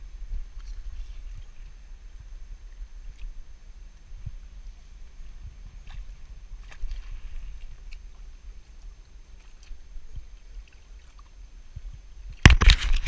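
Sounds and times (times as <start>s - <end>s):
water lapping at rocks: 0.0s - 13.0s
wind rumbling on microphone: 0.0s - 13.0s.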